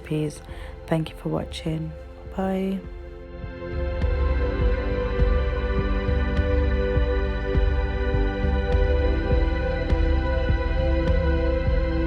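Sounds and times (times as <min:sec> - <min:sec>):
calm ambient music with low beat: 0:00.0 - 0:12.0.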